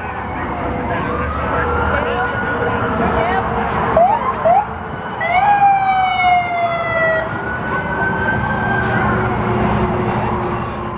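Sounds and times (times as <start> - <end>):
large coach engine rumble: 0.0 - 10.9
siren whooping and wailing: 0.0 - 10.9.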